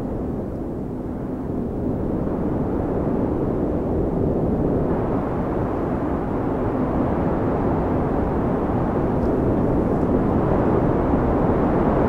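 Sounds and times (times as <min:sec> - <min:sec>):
wind low rumbling: 0:00.0 - 0:12.0.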